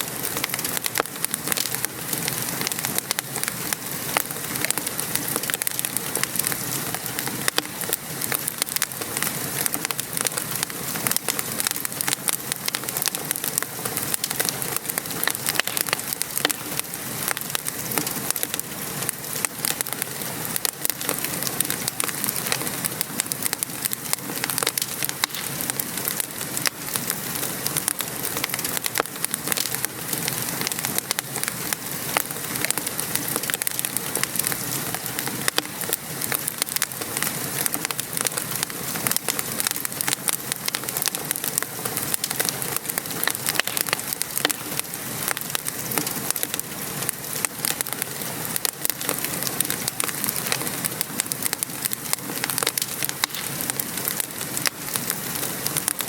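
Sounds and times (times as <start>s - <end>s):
rain falling and pattering: 0.0s - 56.0s
wood fire crackling: 0.0s - 56.0s.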